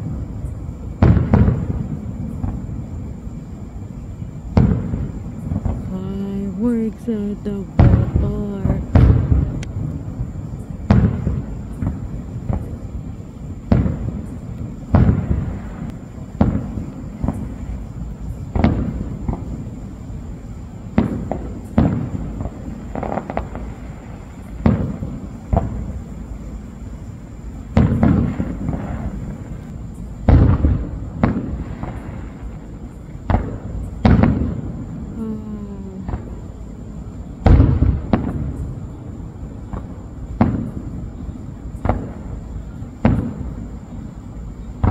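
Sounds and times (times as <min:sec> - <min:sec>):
low rumble after booms: 0:00.0 - 0:05.9, 0:07.7 - 0:35.2, 0:36.0 - 0:44.9
fireworks booming: 0:00.0 - 0:44.9.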